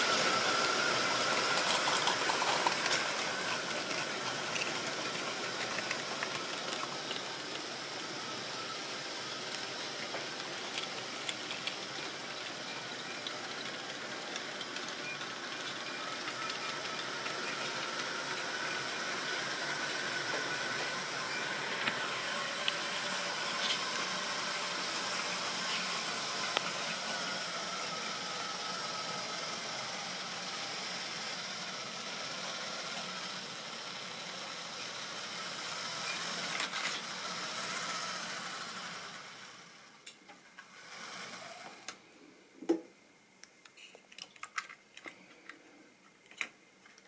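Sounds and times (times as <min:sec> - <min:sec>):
model train motor whine: 0:00.0 - 0:42.0.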